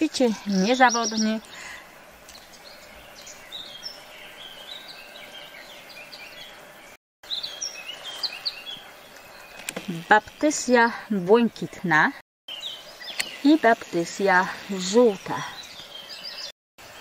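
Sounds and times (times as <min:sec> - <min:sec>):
birds singing: 0:00.0 - 0:17.0
faint outdoor hiss: 0:00.0 - 0:17.0.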